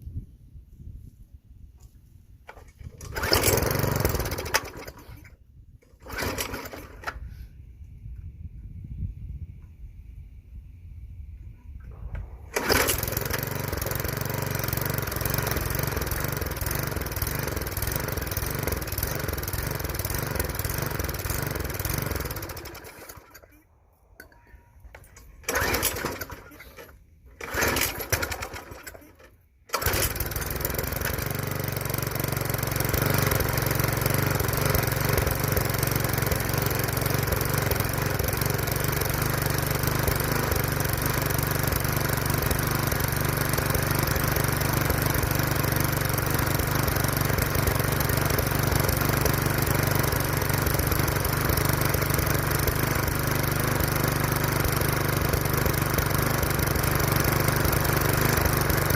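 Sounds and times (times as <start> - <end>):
small engine running rough: 2.5 - 5.3, 5.9 - 7.4, 12.5 - 23.6, 25.4 - 58.9
recoil starter pull: 2.5 - 7.4, 11.9 - 58.9.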